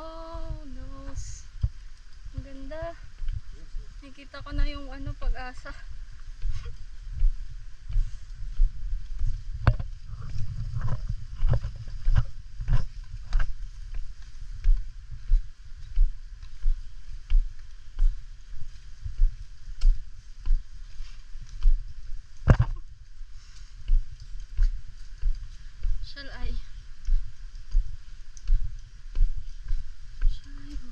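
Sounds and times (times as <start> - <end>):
footsteps on a trail: 0.0 - 30.9
steady low rumble: 0.0 - 30.9.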